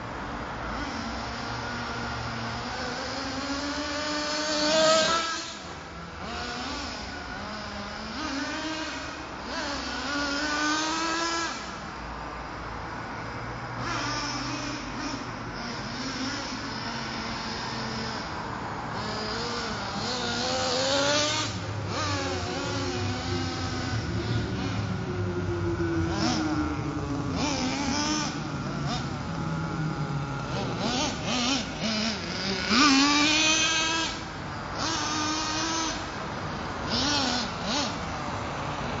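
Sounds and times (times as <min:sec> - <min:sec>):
rc truck engine revving: 0:00.0 - 0:39.0.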